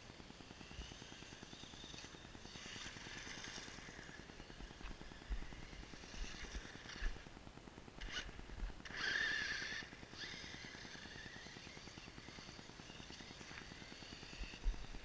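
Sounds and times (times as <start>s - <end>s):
rc car electric motor whining: 0.0s - 7.2s, 8.0s - 15.0s.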